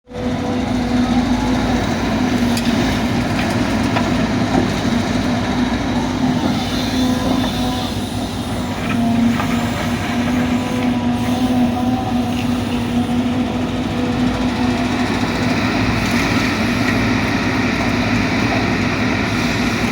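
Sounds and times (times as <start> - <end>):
diesel engine humming: 0.0 - 19.9.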